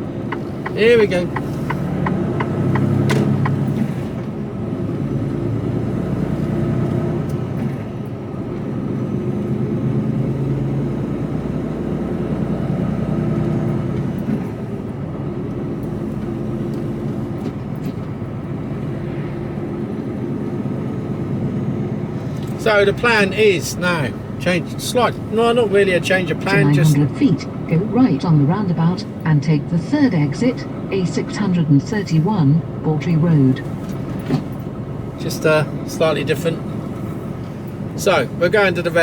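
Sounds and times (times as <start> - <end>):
lorry diesel engine drone: 0.0 - 39.0
road noise inside cab: 0.0 - 39.0.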